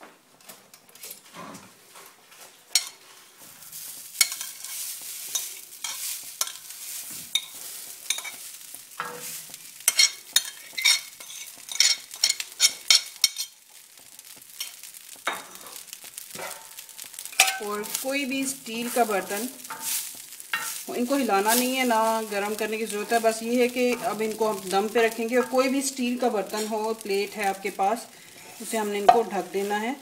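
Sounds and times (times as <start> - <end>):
rice sizzling on a griddle: 0.0 - 30.0
spoon scraping and tapping griddle: 0.4 - 29.8.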